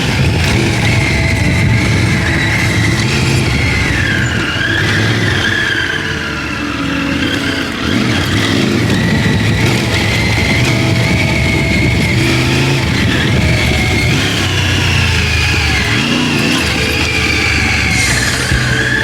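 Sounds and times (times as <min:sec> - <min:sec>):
motorcycle engine revving: 0:00.0 - 0:19.0
riding noise: 0:00.0 - 0:19.0.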